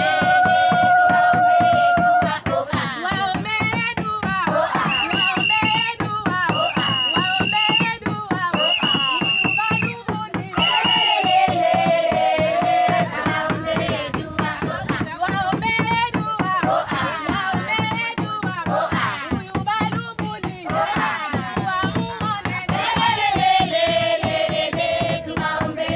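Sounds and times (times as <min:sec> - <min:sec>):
women singing: 0:00.0 - 0:25.9.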